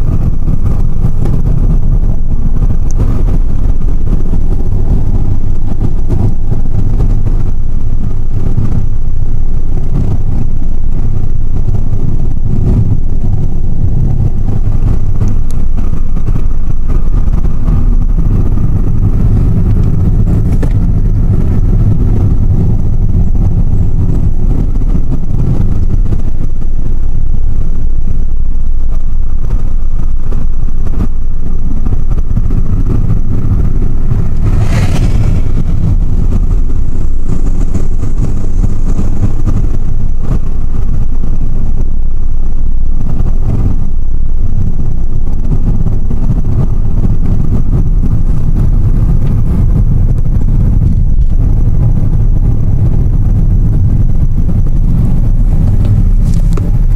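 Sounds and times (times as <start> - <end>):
car engine and road noise rumble: 0.0 - 56.9.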